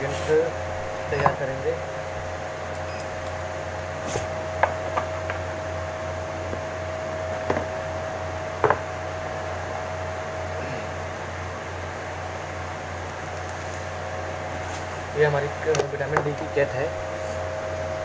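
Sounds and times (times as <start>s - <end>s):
fan humming: 0.0s - 18.0s.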